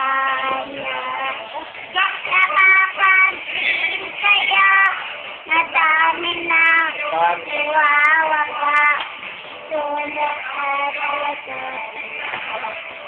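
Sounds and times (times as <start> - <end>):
girl singing in a high voice: 0.0 - 12.8.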